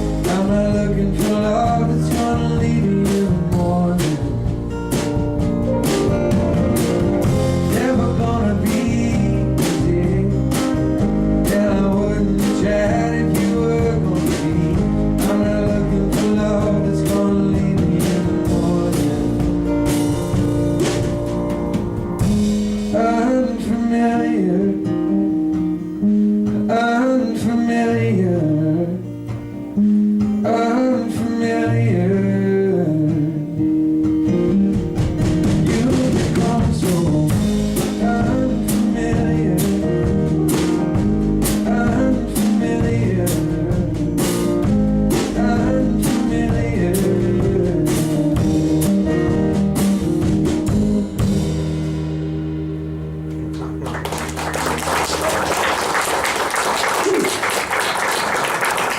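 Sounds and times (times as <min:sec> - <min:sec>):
guitar lead melody: 0:00.0 - 0:26.9, 0:27.9 - 0:35.6, 0:37.4 - 0:55.4
drum kit: 0:00.0 - 0:27.8, 0:33.0 - 0:58.9
country blues band playing: 0:00.0 - 0:58.9.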